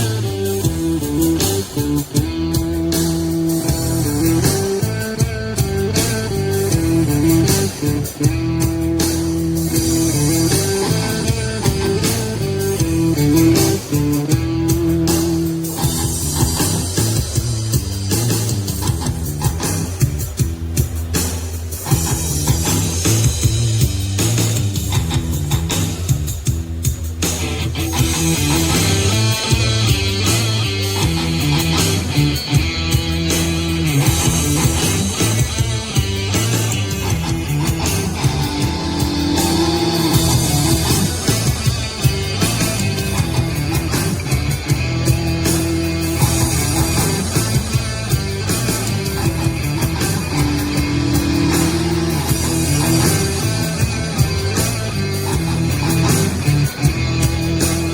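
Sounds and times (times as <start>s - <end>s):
rock music through speaker: 0.0s - 57.9s.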